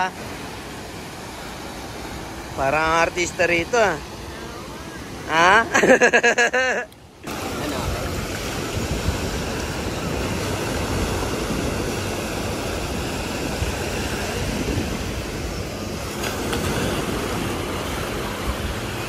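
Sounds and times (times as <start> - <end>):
ocean surf breaking on beach: 0.0 - 19.0.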